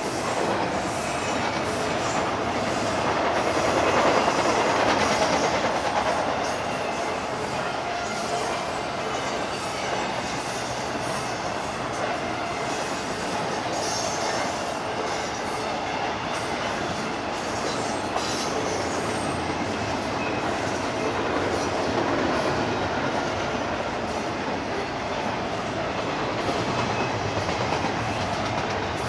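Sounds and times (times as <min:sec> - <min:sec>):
freight train rolling past: 0:00.0 - 0:29.0
steel wheels clattering on rails: 0:00.0 - 0:29.0.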